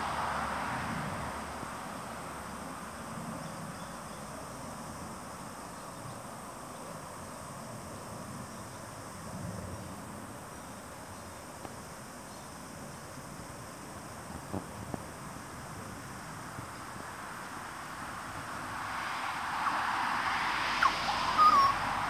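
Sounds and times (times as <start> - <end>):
faint outdoor hiss: 0.0 - 22.0
high-pitched insect chorus: 0.0 - 22.0.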